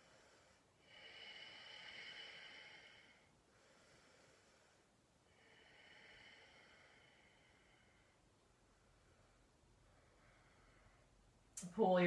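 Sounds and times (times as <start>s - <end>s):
person breathing softly: 0.0s - 11.4s.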